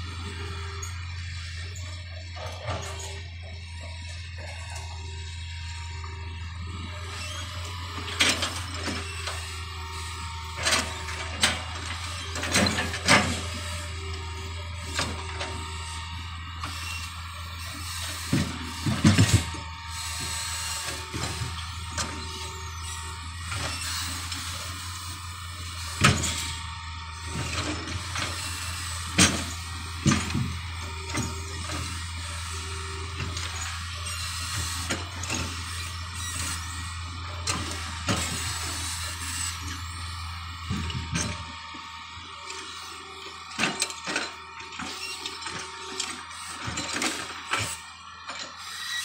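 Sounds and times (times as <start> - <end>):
excavator engine drone: 0.0 - 49.0.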